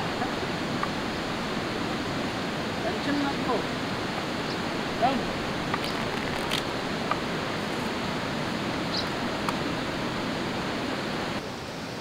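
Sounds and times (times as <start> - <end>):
river rushing over rocks: 0.0 - 11.4.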